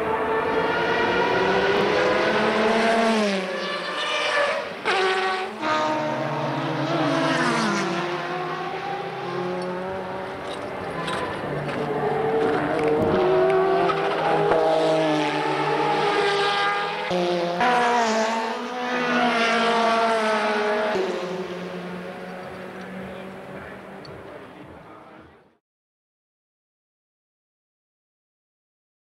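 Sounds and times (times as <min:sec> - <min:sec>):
race car engines at full throttle: 0:00.0 - 0:25.6.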